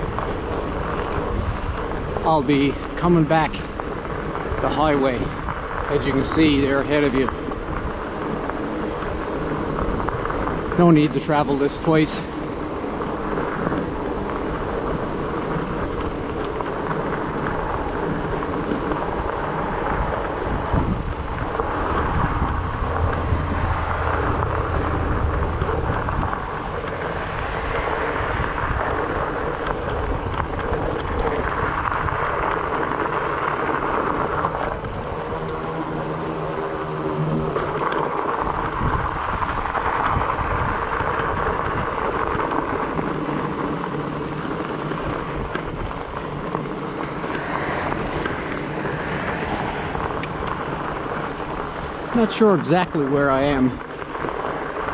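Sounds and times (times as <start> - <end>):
wind on microphone: 0.0 - 52.3
bike tyres rolling on trail: 0.0 - 54.9.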